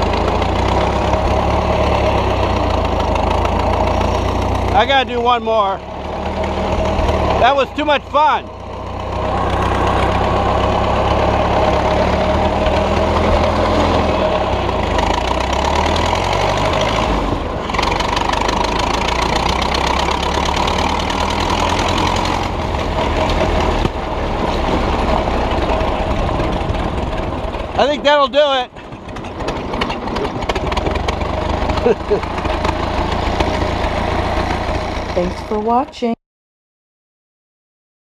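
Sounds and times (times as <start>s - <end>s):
tractor engine running: 0.0s - 36.2s.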